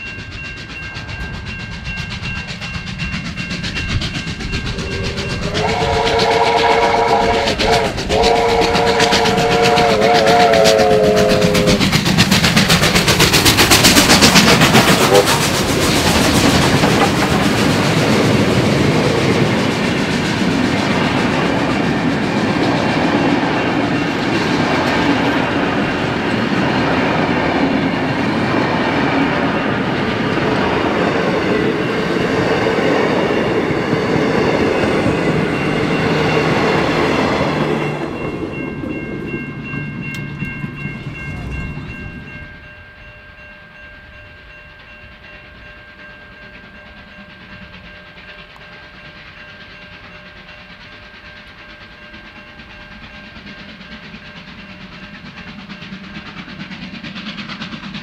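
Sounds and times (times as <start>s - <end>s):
train wheels clattering over rail joints: 0.1s - 42.5s, 46.5s - 58.0s.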